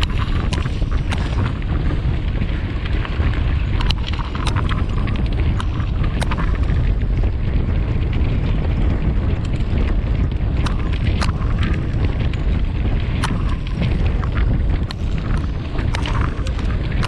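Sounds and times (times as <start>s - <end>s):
bike rattling clicks and knocks: 0.0s - 17.0s
wind buffeting microphone: 0.0s - 17.0s.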